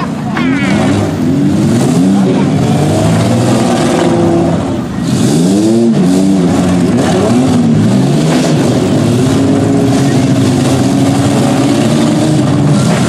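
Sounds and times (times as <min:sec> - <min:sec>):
broad rush of noise: 0:00.0 - 0:13.0
minivan engines revving hard: 0:00.0 - 0:13.0.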